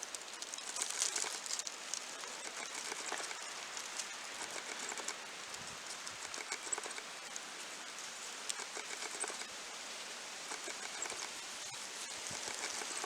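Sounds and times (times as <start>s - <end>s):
faint steady hiss: 0.0s - 13.0s
light ticks and rustles: 0.0s - 13.0s.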